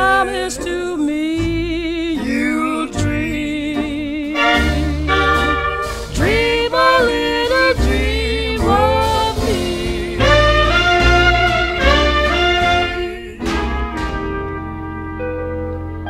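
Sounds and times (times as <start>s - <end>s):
bass line: 0.0s - 16.0s
jazzy swing music with horns: 1.4s - 16.0s.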